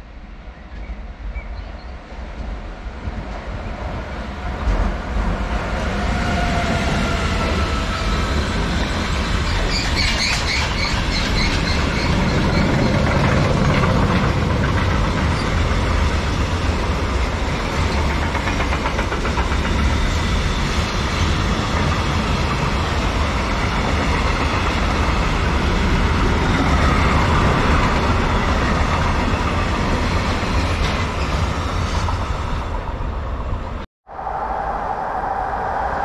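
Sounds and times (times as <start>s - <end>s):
train wheels clattering on track: 2.2s - 32.8s.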